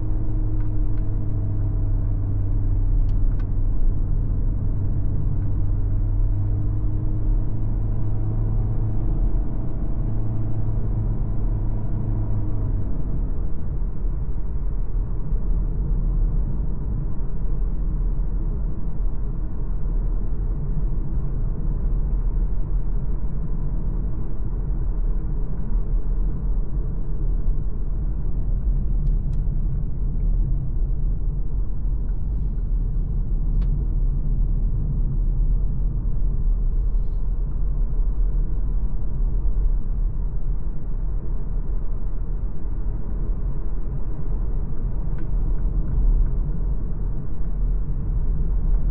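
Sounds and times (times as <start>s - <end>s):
car rumbling on road: 0.0s - 48.9s.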